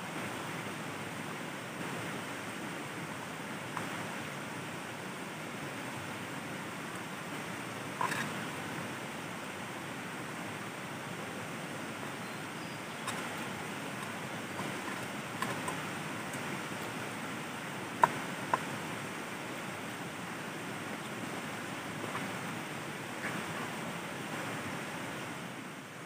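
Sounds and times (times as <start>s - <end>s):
river flowing: 0.0s - 26.0s.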